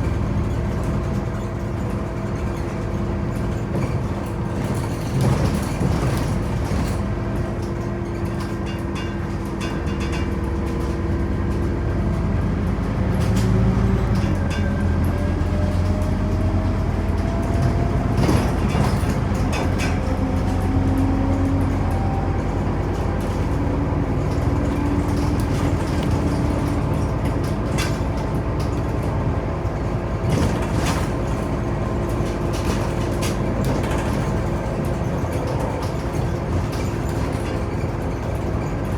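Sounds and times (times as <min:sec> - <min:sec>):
bus body knocks and rattles: 0:00.0 - 0:38.9
bus diesel engine running: 0:00.0 - 0:38.9.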